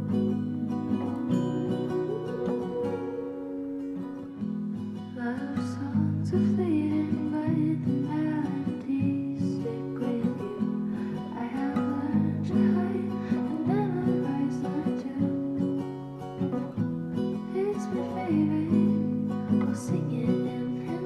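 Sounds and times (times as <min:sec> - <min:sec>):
strummed acoustic guitar music: 0:00.0 - 0:21.0.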